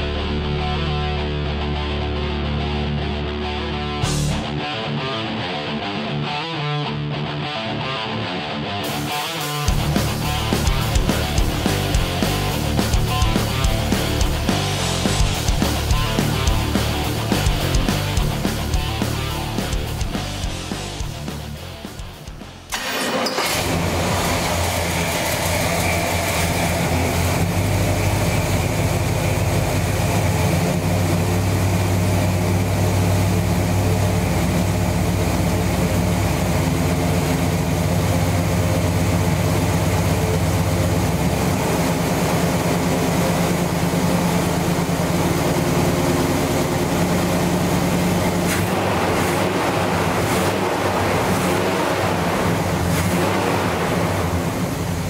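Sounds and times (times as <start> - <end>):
engine idling with deep rumble: 9.7 - 55.0.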